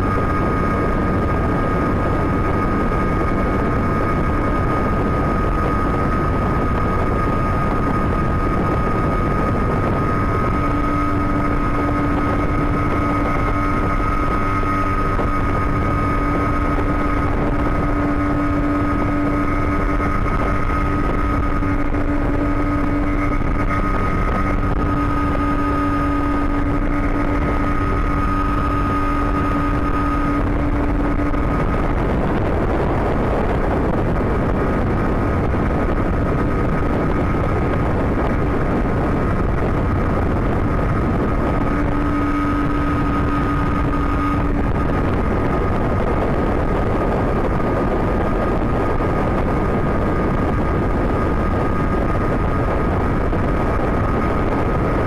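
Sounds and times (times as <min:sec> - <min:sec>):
outboard motor running: 0:00.0 - 0:55.0
steady whine: 0:00.0 - 0:55.0
water and wind rushing: 0:00.0 - 0:55.0.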